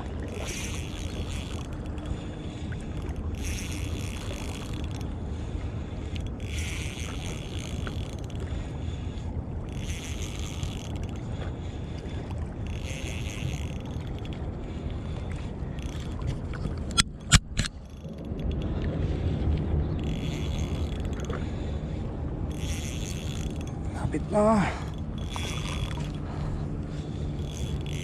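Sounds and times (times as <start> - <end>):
wind and water rumble: 0.0 - 28.0
fishing reel whirring: 0.1 - 18.7, 20.0 - 28.0.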